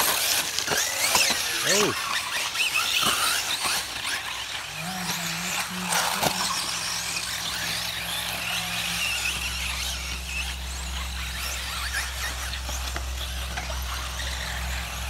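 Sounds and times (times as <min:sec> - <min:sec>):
rc car motors whining: 0:00.0 - 0:15.0
steady low hum: 0:01.9 - 0:15.0.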